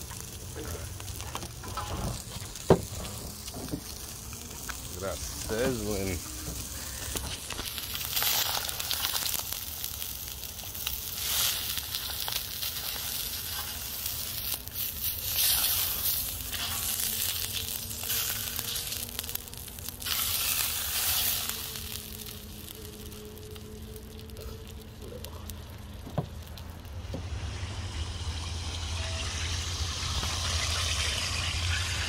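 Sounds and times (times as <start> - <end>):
fish frying in hot oil: 0.0 - 32.0.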